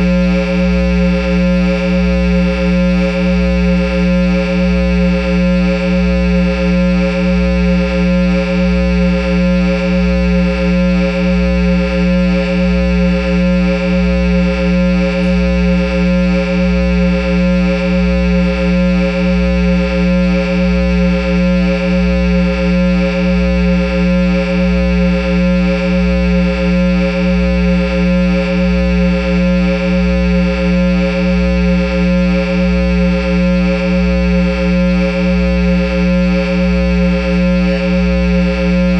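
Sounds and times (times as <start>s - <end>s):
guitar amplifier electrical hum: 0.0s - 38.9s
low pulsing throb: 0.0s - 38.9s.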